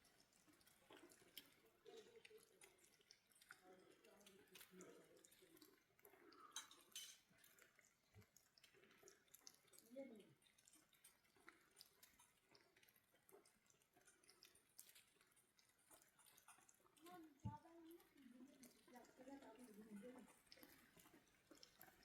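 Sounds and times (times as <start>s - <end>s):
faint clicks and ticks: 0.0s - 22.0s.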